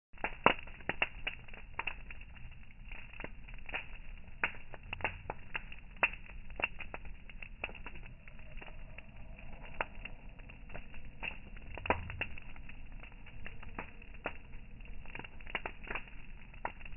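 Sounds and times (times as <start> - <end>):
campfire wood crackling: 0.2 - 16.9.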